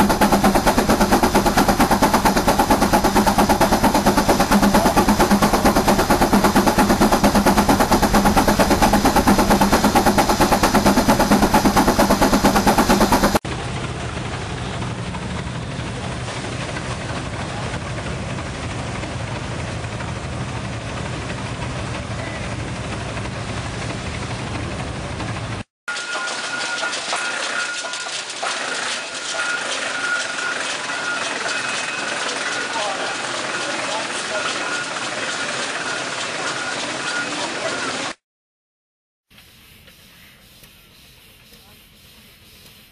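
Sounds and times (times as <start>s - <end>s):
quieter steady engine running: 0.0s - 25.6s, 28.5s - 38.1s
engine running with rapid pulsing: 0.0s - 38.2s.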